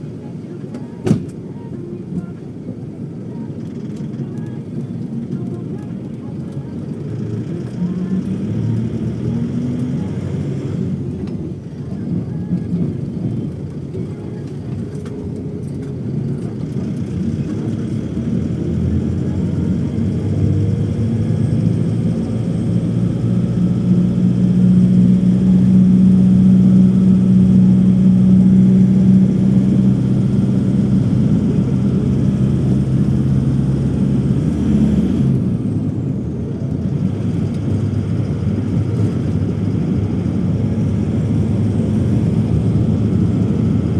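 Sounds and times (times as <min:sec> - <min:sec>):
low hum tones: 0:00.0 - 0:43.9
vehicle engine drone: 0:00.0 - 0:43.9.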